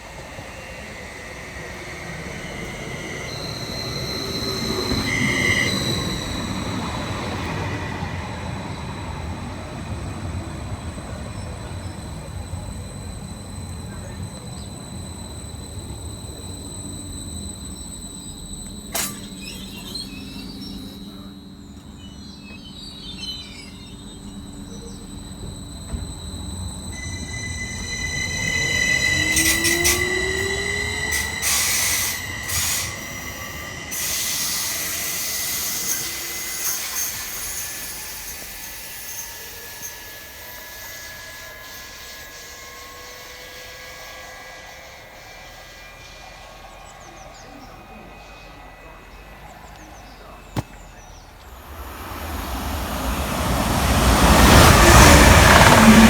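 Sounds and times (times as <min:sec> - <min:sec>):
train wheels squealing: 0:00.0 - 0:56.0.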